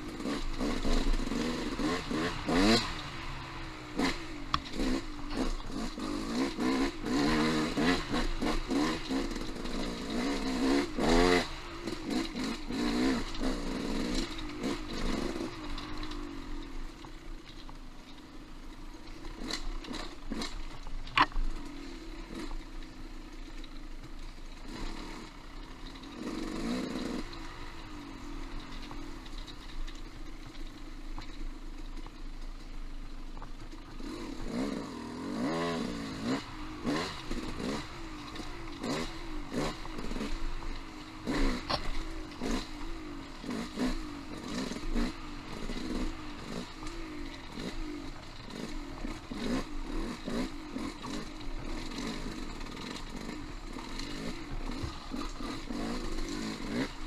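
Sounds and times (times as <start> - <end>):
motorcycle engine revving: 0.0 - 32.4, 33.0 - 57.0.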